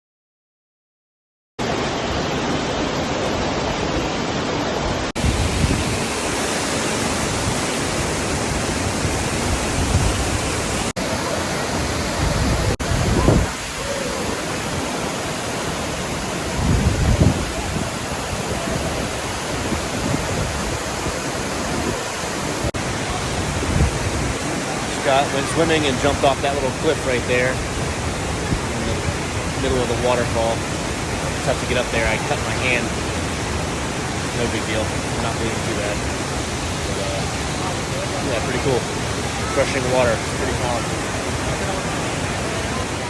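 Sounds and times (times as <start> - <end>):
waterfall rushing: 1.6 - 43.0.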